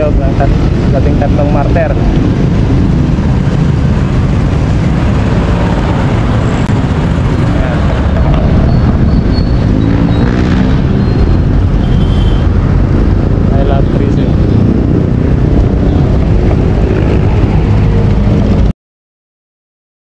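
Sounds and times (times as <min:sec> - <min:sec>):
motor vehicles passing close: 0:00.0 - 0:18.7
wind rumble on microphone: 0:00.0 - 0:18.7.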